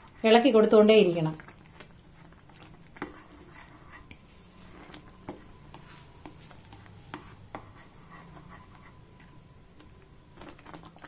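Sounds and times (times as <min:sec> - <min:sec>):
sauce bubbles popping: 0:00.0 - 0:11.0
spoon stirring in pan: 0:00.0 - 0:11.0.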